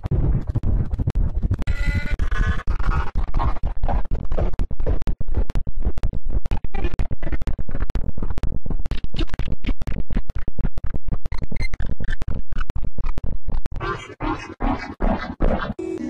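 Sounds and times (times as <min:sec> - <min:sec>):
distorted stuttering audio: 0:00.0 - 0:16.0.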